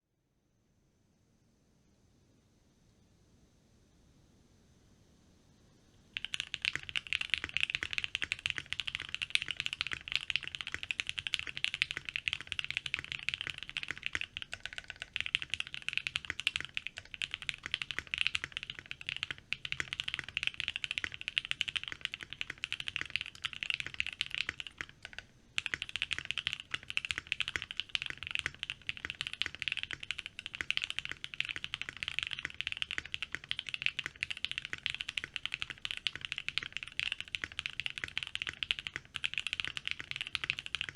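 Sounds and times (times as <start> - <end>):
mechanical keyboard typing: 6.2 - 40.9.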